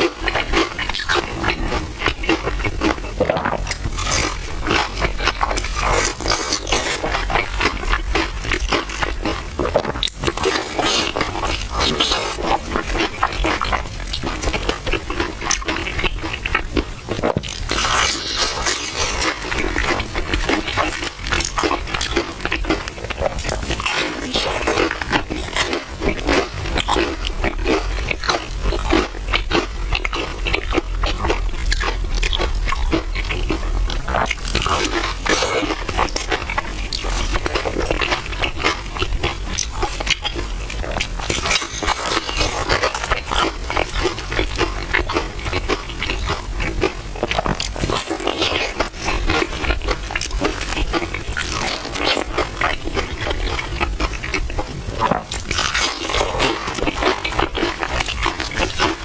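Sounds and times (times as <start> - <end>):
chewing: 0.0 - 59.0.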